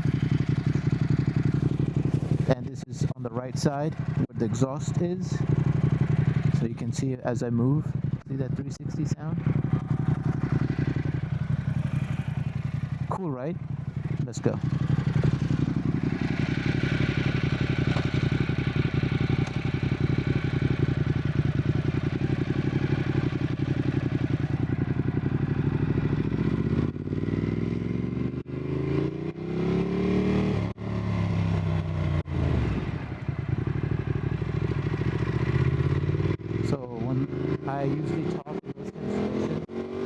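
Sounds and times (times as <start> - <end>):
motorcycle exhaust accelerating: 0.0 - 40.0.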